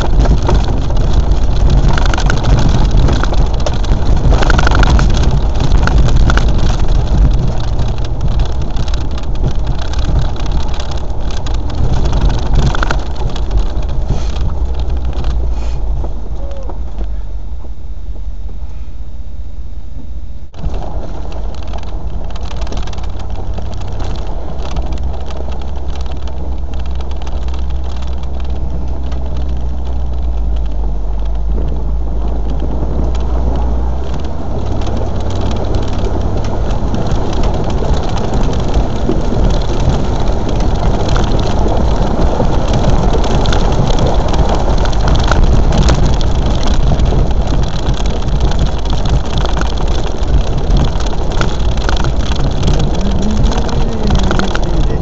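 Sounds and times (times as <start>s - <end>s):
knocks and rattles: 0.0s - 17.8s, 20.6s - 55.0s
off-road vehicle engine running: 0.0s - 55.0s.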